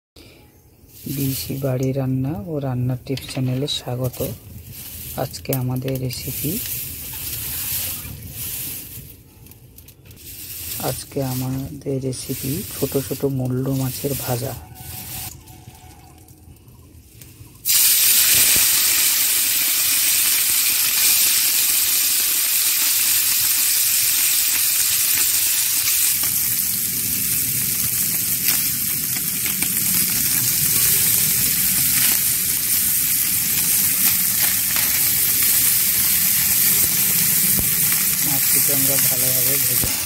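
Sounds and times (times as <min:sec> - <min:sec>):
fish sizzling in hot oil: 0:00.9 - 0:02.1, 0:03.7 - 0:09.2, 0:10.1 - 0:40.0.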